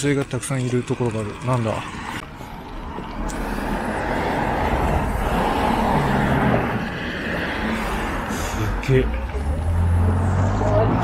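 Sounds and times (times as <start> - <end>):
car driving past: 1.9 - 11.0.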